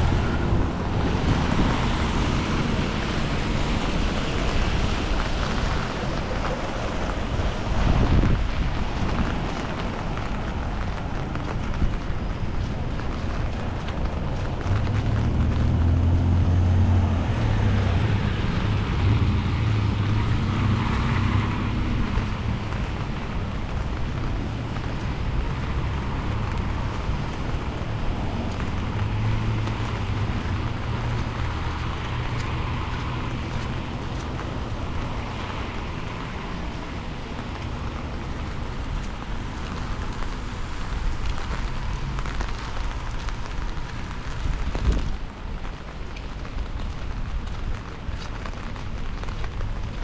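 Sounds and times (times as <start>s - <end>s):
car engines humming: 0.0s - 50.0s
rain falling on street: 0.0s - 50.0s
tyres hissing on wet road: 0.0s - 50.0s.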